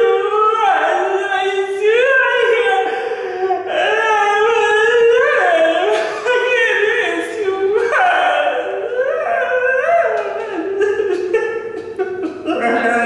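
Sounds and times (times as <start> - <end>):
operatic singing: 0.0 - 13.0.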